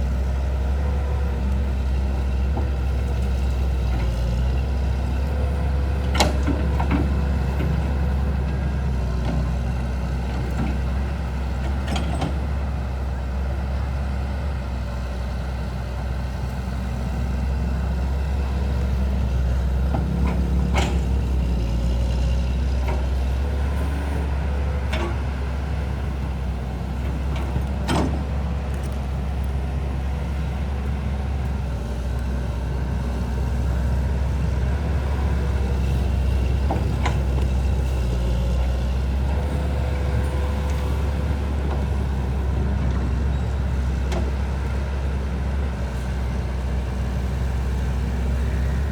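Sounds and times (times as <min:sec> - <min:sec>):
engine humming: 0:00.0 - 0:48.9.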